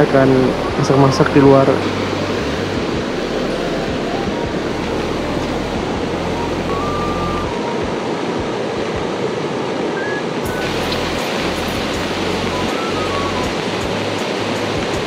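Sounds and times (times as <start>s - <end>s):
fast-running river rushing: 0.0s - 15.0s.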